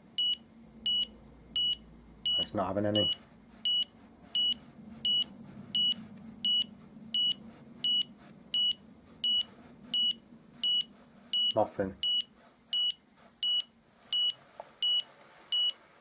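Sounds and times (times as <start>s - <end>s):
wall detector short high beeps: 0.2s - 15.8s.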